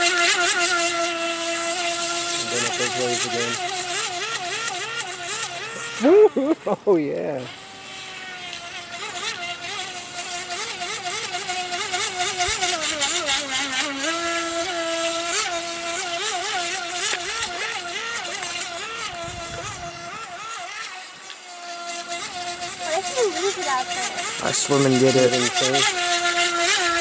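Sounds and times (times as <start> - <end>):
model boat motor whining: 0.0 - 27.0.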